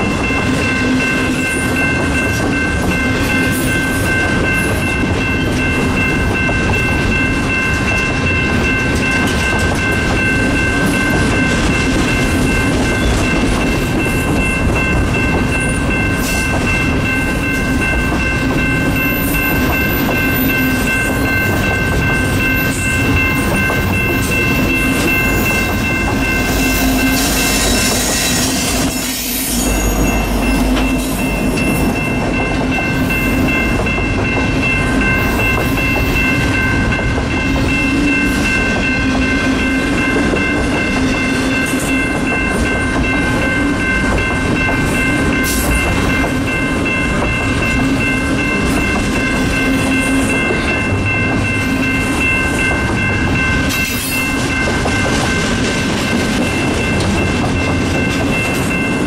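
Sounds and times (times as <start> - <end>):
high-pitched tones: 0.0 - 59.0
train wheels rolling on rails: 0.0 - 59.0.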